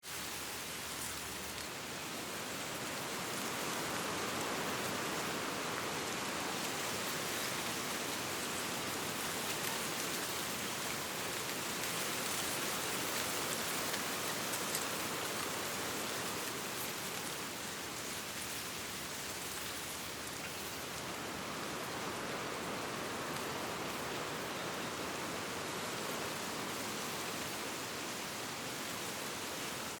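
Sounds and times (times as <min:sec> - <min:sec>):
wind rustling dry leaves: 0:00.0 - 0:30.0.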